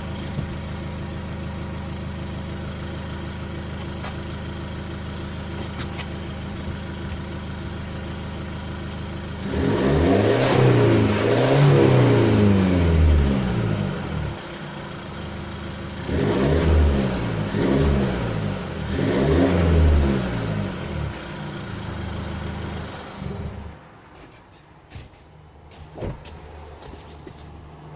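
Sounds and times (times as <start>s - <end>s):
diesel engine idling and revving: 0.0s - 27.9s.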